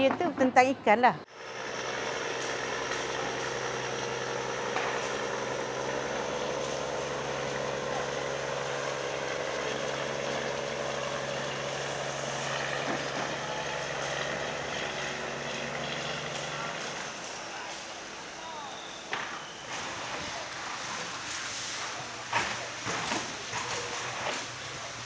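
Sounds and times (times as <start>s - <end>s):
steady mechanical hum: 0.1s - 25.0s.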